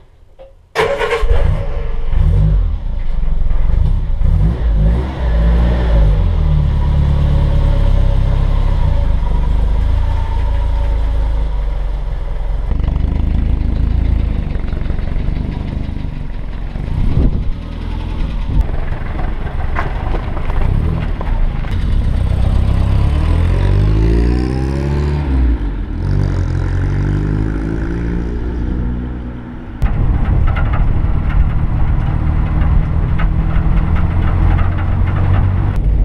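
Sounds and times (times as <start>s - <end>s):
car engine starting and revving: 0.8s - 36.0s.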